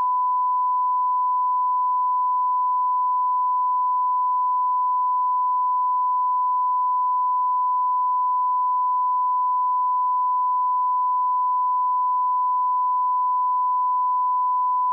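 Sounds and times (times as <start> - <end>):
steady sine test tone: 0.0 - 14.9.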